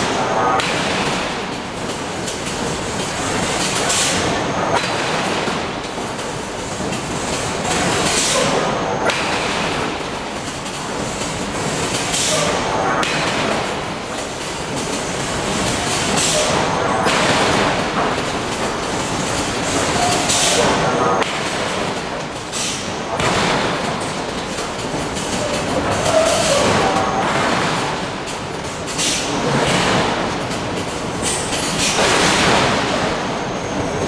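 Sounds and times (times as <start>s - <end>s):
loud machinery noise: 0.0s - 34.0s.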